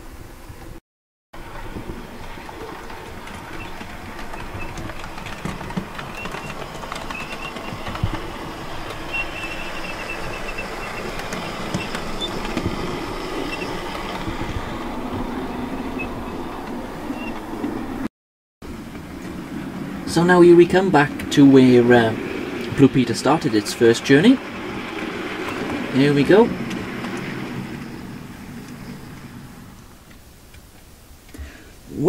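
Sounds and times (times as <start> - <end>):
model train running on track: 1.4 - 18.0, 18.7 - 30.0
wheels clicking over rails: 1.4 - 18.1, 18.7 - 31.6.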